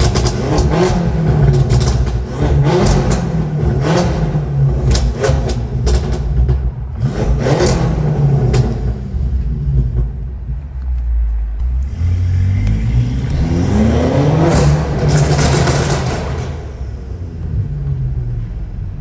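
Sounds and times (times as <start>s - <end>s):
car engine running under load: 0.0s - 19.0s
exhaust cracks: 0.0s - 19.0s.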